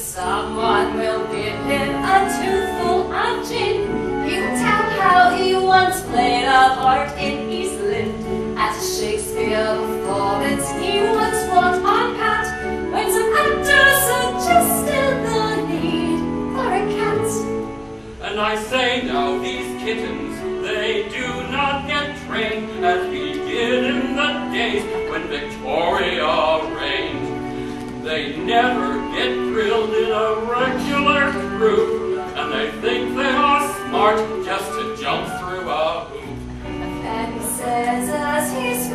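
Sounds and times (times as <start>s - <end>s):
instrumental accompaniment: 0.0s - 38.9s
operatic singing: 0.0s - 38.9s.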